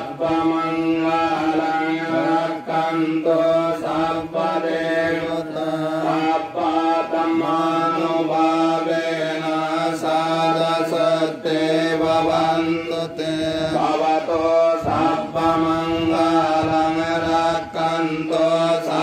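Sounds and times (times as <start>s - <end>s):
monks chanting: 0.0s - 19.0s.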